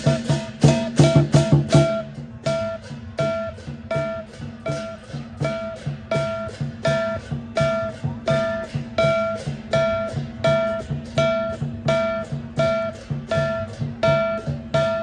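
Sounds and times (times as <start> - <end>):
low drone and beat: 0.0 - 15.0.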